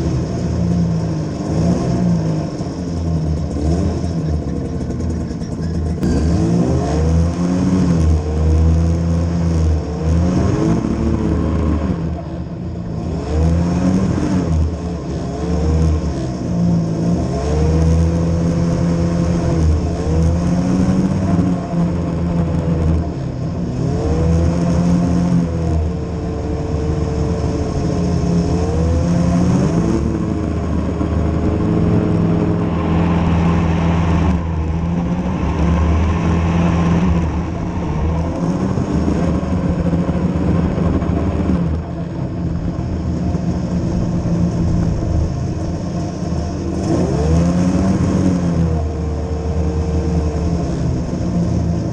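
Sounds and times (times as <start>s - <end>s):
vehicle engine revving: 0.0s - 51.9s.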